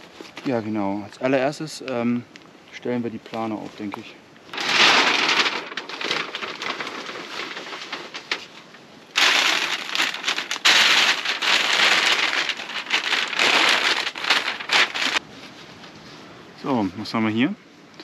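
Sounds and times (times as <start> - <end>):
groundsheet crinkling and rustling: 0.0 - 2.0, 3.1 - 16.3.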